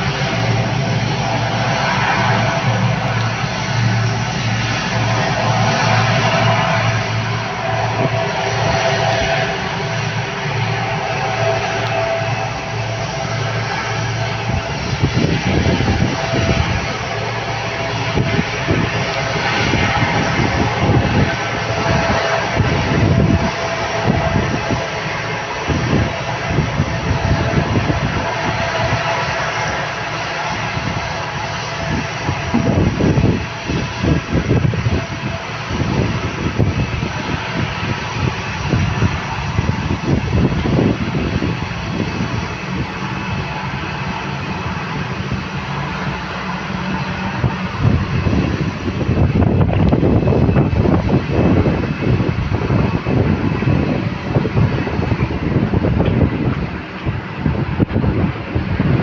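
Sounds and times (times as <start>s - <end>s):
airplane engines roaring: 0.0s - 59.0s
low fluttering rumble: 0.0s - 59.0s.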